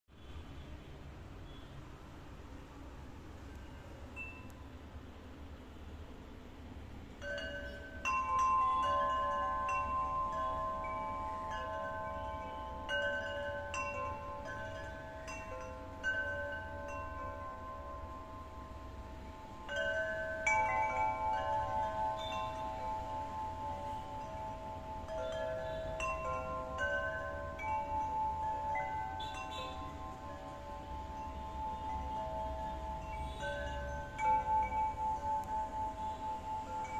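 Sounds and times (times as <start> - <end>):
tubular wind chime ringing: 3.6 - 5.1, 7.0 - 36.9.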